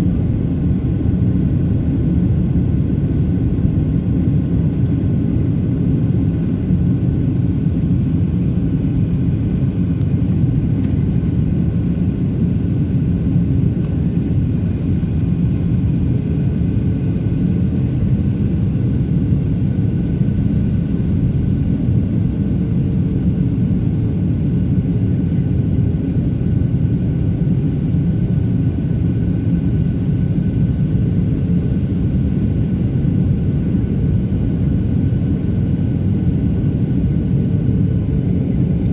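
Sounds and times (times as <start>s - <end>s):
aircraft engine rumble: 0.0s - 38.9s.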